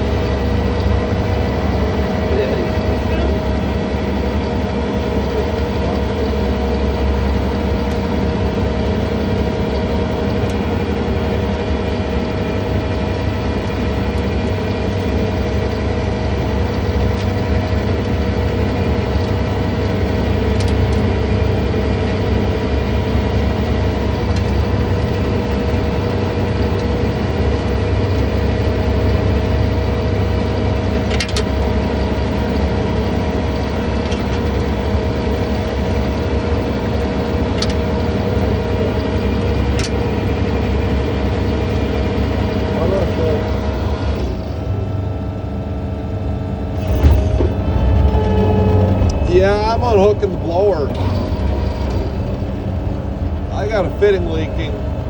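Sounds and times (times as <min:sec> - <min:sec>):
skid steer engine running: 0:00.0 - 0:55.0
steady whine: 0:00.0 - 0:55.0.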